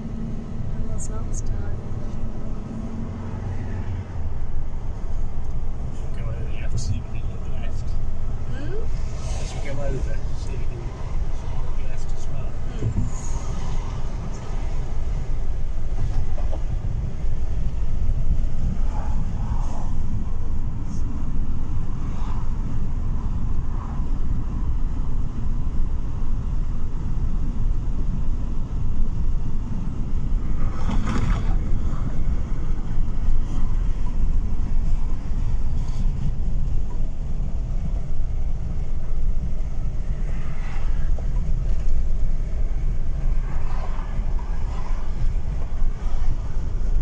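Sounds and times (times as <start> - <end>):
road and wind noise inside car: 0.0 - 47.0.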